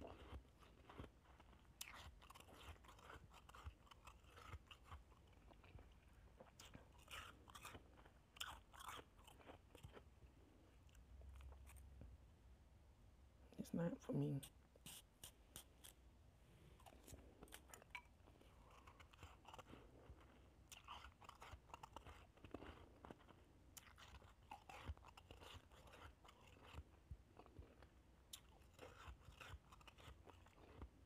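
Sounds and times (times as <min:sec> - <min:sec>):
chewing shaved ice: 0:00.0 - 0:12.0, 0:16.7 - 0:31.0.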